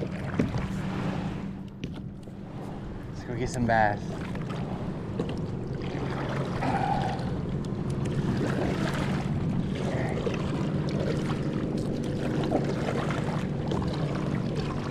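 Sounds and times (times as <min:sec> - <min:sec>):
low motor hum: 0:00.0 - 0:14.9
water splashing against kayak: 0:00.0 - 0:14.9.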